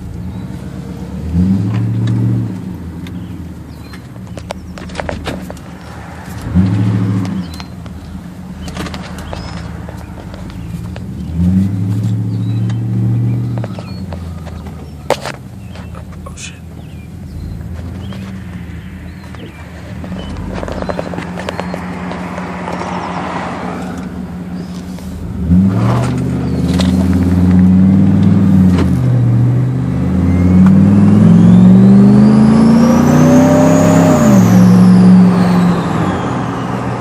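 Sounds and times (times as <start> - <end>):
car engine accelerating hard: 0.0 - 37.0.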